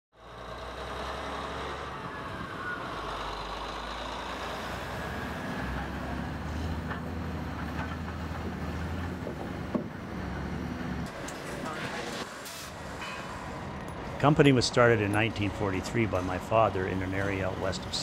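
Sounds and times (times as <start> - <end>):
heavy machinery engine drone: 0.2 - 18.0.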